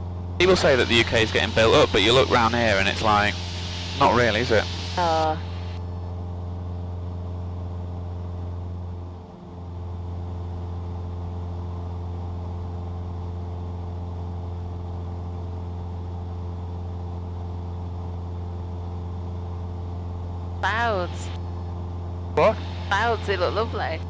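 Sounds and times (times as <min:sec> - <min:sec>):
aircraft engine and propeller drone: 0:00.0 - 0:24.0.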